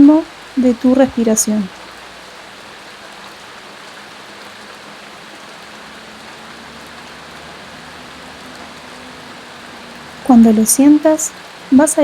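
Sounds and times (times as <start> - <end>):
steady rain hissing: 0.0 - 12.0.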